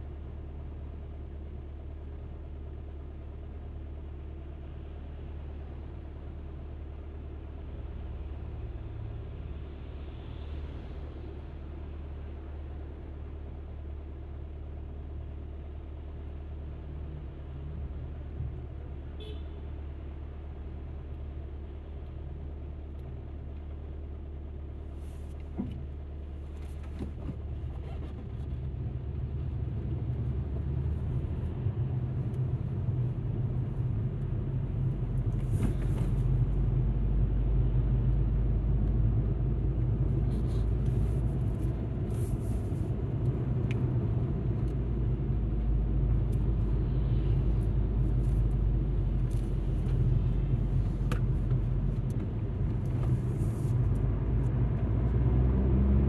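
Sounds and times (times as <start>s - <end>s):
car engine and road hum: 0.0s - 56.0s.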